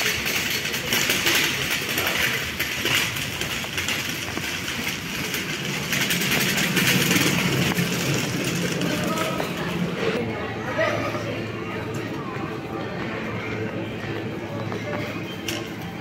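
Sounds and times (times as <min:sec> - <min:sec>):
shopping trolley rattling: 0:00.0 - 0:10.2, 0:10.9 - 0:16.0.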